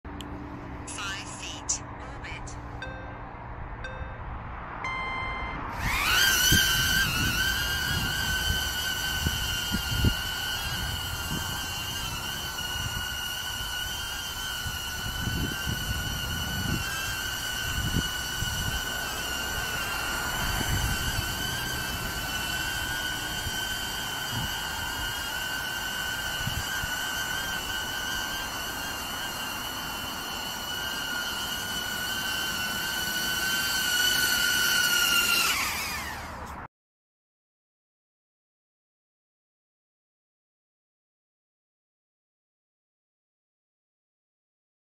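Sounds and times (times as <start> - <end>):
drone propellers whining: 0.1 - 36.7.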